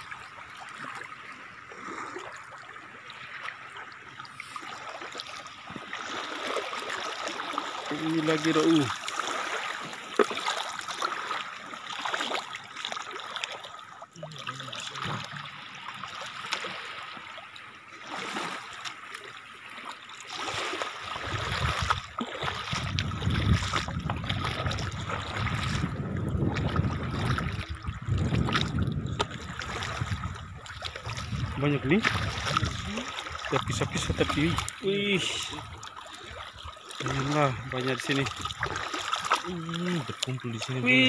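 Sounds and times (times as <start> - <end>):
water sloshing around wading feet: 0.0 - 41.0.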